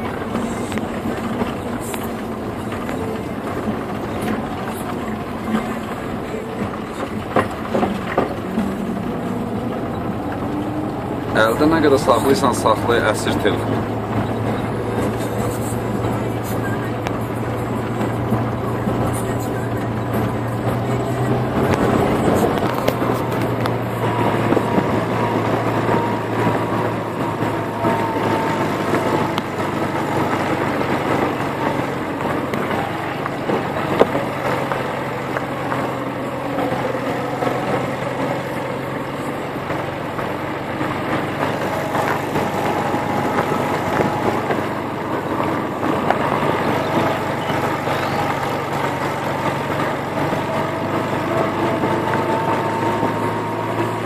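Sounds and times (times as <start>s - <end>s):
car engine hum: 0.0s - 54.0s
tyres on gravel: 0.0s - 54.0s.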